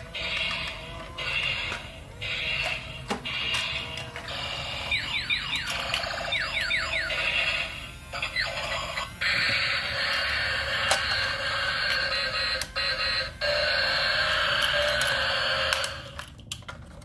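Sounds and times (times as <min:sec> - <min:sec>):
toy electronic buzzing: 0:00.0 - 0:16.3
toy laser-like chirps: 0:00.2 - 0:15.5.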